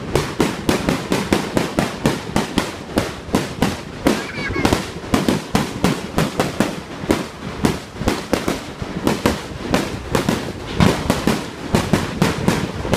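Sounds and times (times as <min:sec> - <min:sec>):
fireworks bursting: 0:00.0 - 0:12.9.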